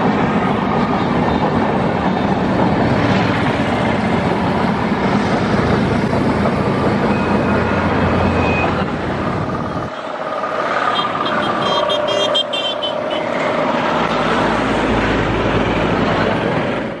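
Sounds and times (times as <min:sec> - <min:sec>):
diesel locomotive rumble: 0:00.0 - 0:17.0
traffic noise: 0:00.0 - 0:17.0.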